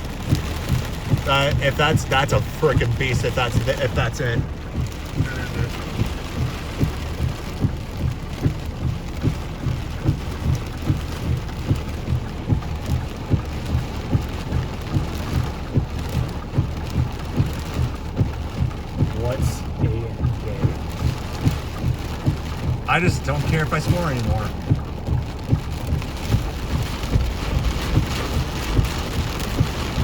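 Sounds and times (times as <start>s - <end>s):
heavy rain on a car: 0.0s - 30.0s
regular low thump: 0.0s - 30.0s.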